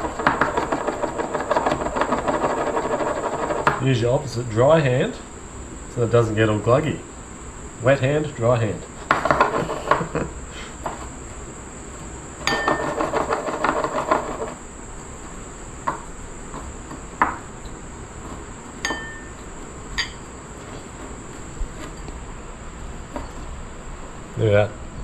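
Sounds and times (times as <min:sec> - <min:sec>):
steady high whine: 0:00.0 - 0:25.0.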